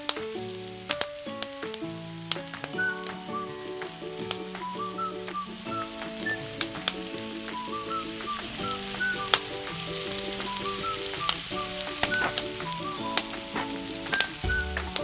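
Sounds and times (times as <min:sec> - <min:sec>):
background music: 0:00.0 - 0:15.0
food sizzling in a pan: 0:02.2 - 0:15.0.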